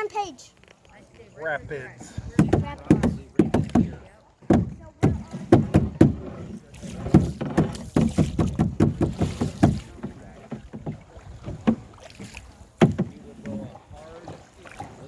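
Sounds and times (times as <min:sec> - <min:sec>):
paddles splashing and knocking: 0:00.0 - 0:15.0.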